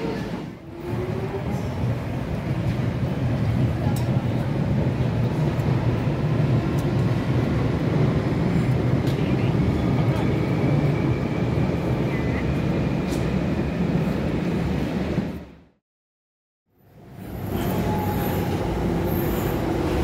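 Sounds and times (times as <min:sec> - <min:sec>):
train low rumble: 0:00.0 - 0:15.7, 0:16.8 - 0:20.0.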